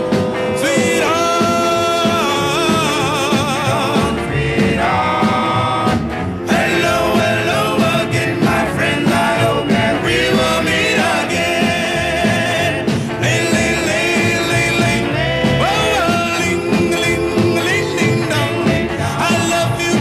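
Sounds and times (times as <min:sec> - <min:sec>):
band keeping a steady beat: 0:00.0 - 0:20.0
male vocal group singing in harmony: 0:00.0 - 0:20.0.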